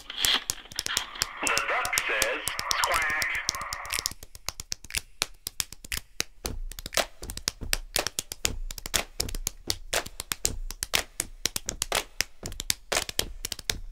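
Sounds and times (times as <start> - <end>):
hand slaps on bald heads: 0.0 - 13.9.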